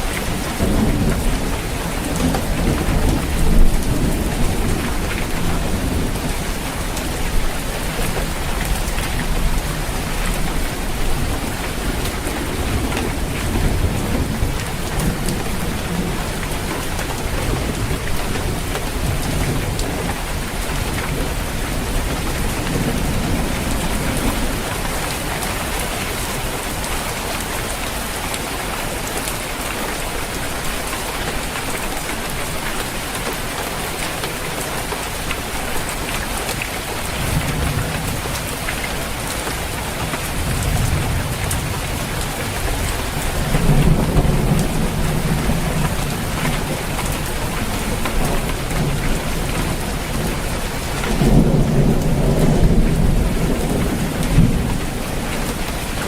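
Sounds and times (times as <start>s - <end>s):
thunder rumbling: 0.0s - 26.2s, 37.1s - 56.0s
heavy rain drumming on a roof: 0.0s - 56.0s.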